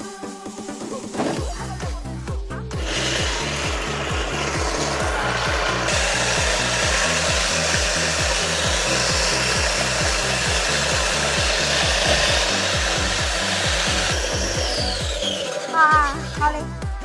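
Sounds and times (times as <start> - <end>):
electric machine whirring: 0.7 - 17.0
music with pulsing bass: 1.2 - 17.0.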